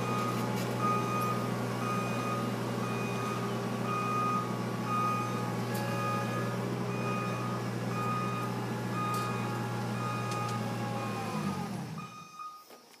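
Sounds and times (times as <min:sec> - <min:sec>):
machine engine running: 0:00.0 - 0:12.2.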